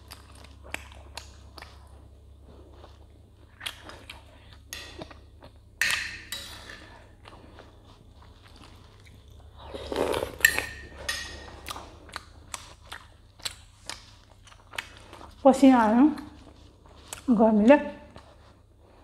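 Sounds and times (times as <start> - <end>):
person chewing food: 0.0 - 15.4, 16.1 - 17.3
steady low hum: 0.0 - 19.0.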